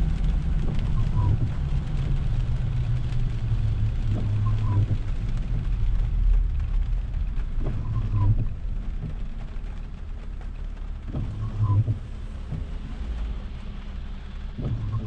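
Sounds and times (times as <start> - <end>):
tyre and road rumble: 0.0 - 15.0
windshield wiper motor hum: 0.0 - 15.0.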